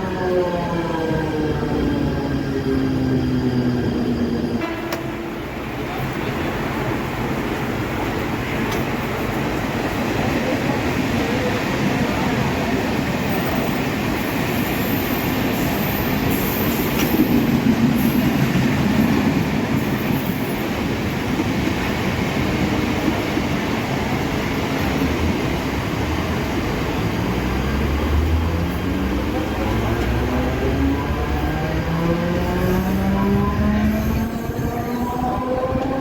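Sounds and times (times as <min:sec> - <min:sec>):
train rumbling and rattling: 0:00.0 - 0:36.0.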